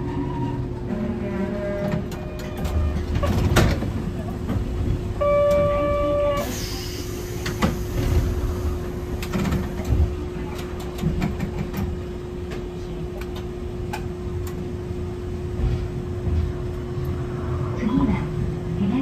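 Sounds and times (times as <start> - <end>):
streetcar rumble and hum: 0.0 - 19.0.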